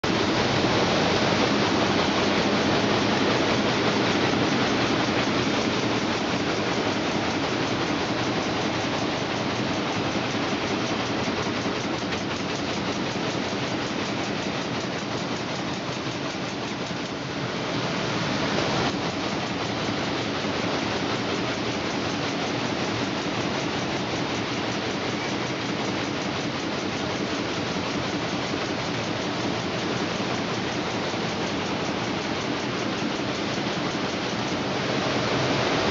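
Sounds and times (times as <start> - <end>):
electric fan running: 0.0 - 35.9.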